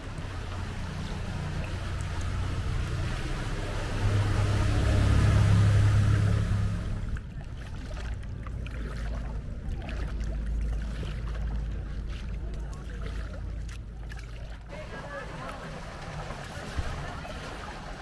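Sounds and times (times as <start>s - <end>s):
motorboat engine humming: 0.0s - 18.0s.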